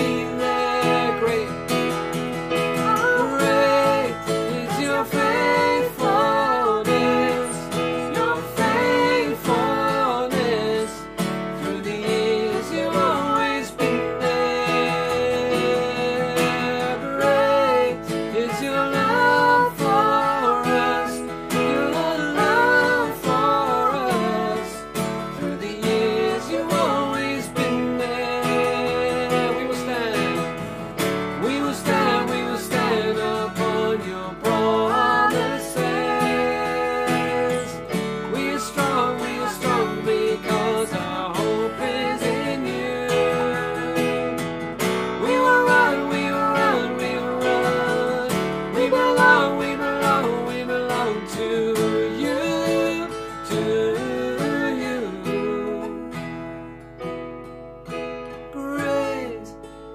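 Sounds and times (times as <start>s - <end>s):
man and woman singing: 0.0s - 30.6s, 31.3s - 56.3s, 58.5s - 59.5s
keyboard: 0.0s - 59.9s
strummed acoustic guitar: 0.0s - 59.9s.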